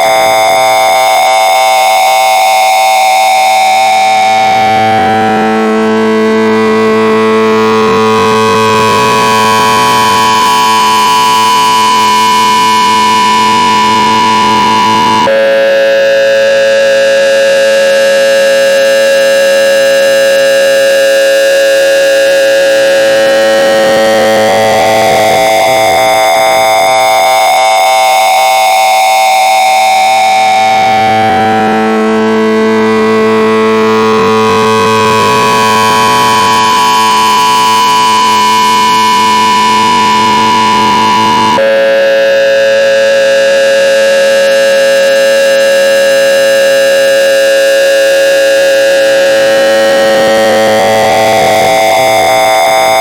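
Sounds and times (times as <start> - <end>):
harsh electronic chord tone: 0.0 - 53.0.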